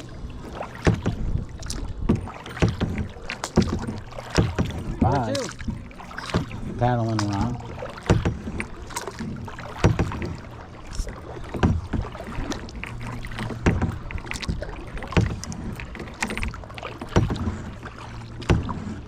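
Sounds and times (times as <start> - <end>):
kayak paddle splashing in water: 0.0 - 19.0.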